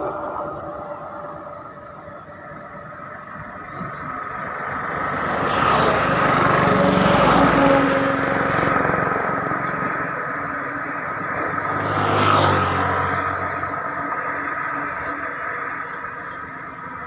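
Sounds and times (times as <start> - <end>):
vehicle approaching: 0.0 - 17.0
vehicle passing on road: 0.0 - 17.0.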